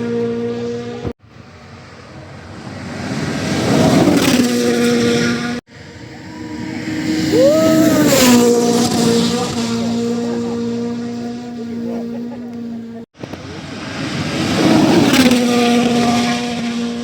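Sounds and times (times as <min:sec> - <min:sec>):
rally car engines passing: 0:00.0 - 0:17.0.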